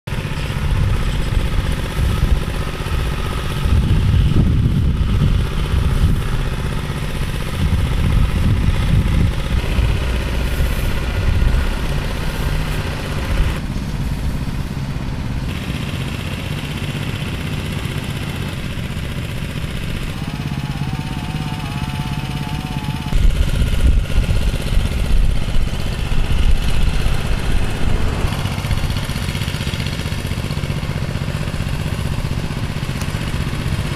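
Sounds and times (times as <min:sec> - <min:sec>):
power trowel engine running: 0:00.1 - 0:33.9.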